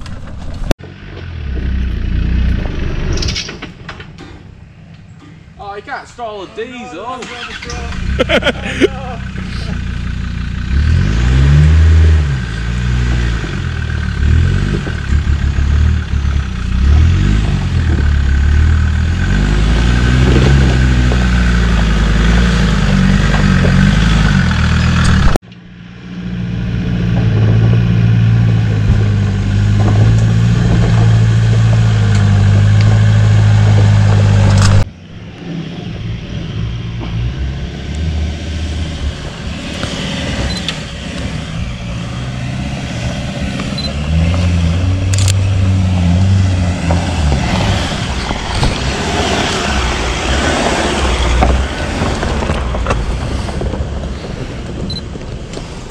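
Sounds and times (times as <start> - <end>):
off-road vehicle engine revving: 0.8 - 3.5, 7.1 - 55.0.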